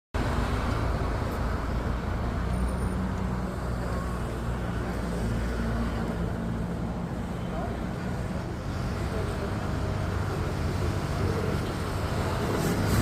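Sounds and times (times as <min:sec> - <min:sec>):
street traffic: 0:00.2 - 0:13.0.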